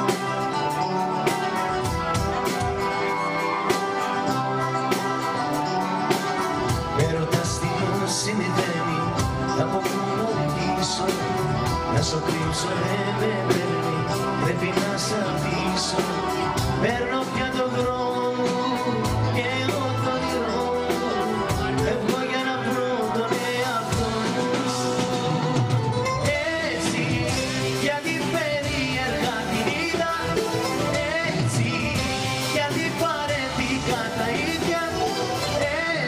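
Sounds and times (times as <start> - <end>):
live band playing pop song: 0.0 - 36.0
man singing into microphone: 6.1 - 36.0.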